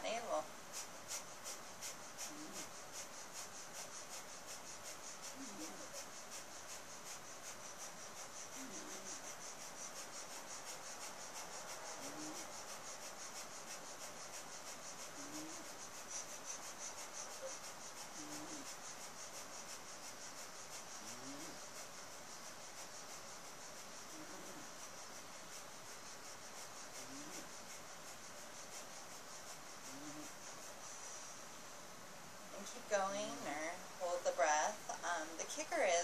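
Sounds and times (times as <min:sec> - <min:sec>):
rapid forceful nose breathing: 0:00.6 - 0:31.6.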